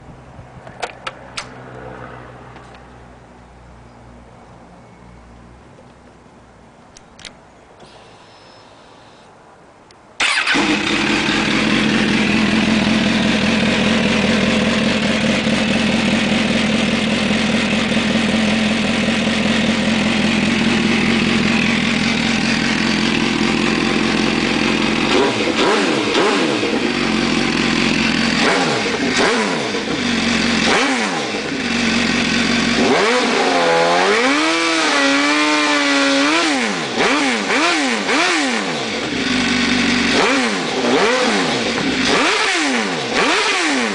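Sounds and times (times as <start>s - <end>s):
motorcycle engine idling and revving: 0.0s - 6.6s, 10.2s - 43.9s.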